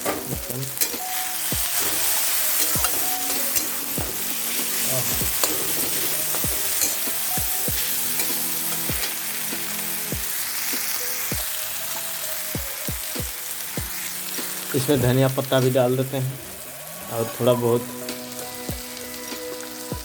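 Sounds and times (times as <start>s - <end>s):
frying hiss: 0.0s - 20.0s
sauce sizzling in hot oil: 0.0s - 20.0s.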